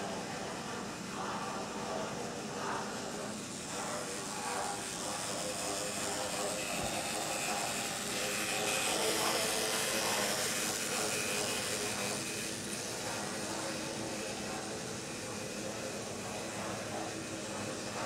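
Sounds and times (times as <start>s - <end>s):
model train motors whirring: 0.0s - 18.0s
wheels hissing on track: 3.3s - 18.0s.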